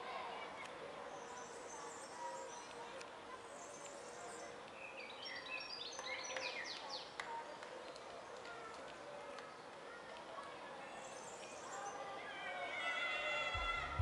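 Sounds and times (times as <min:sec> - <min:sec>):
murmur of distant voices: 0:00.0 - 0:14.0.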